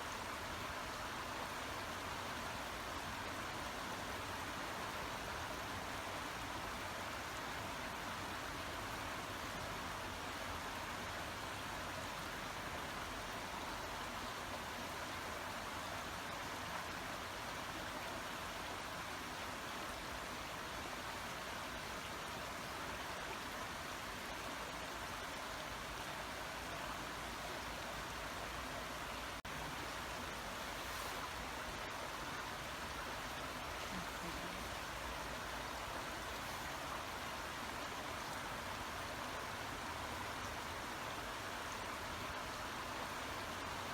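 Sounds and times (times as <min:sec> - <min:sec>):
shallow brook babbling: 0:00.0 - 0:43.9.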